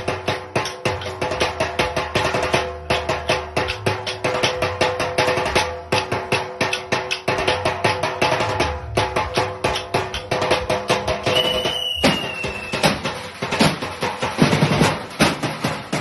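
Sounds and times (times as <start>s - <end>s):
metal percussion fast rhythm: 0.0s - 16.0s.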